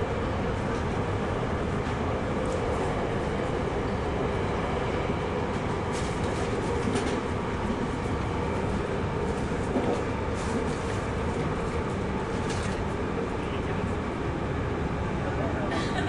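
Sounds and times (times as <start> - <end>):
steady train hum: 0.0 - 16.0
train wheels rumbling on rails: 0.0 - 16.0.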